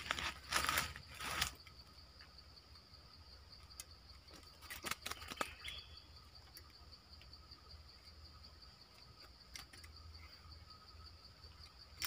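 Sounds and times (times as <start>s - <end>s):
insect drone: 0.0s - 12.0s
rustle: 0.0s - 12.0s.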